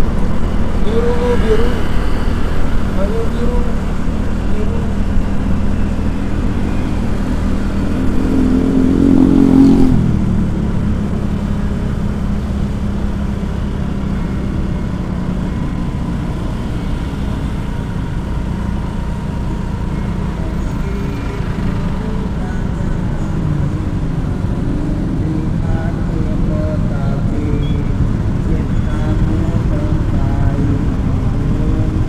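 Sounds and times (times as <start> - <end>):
vehicle engine with road noise: 0.0 - 32.0.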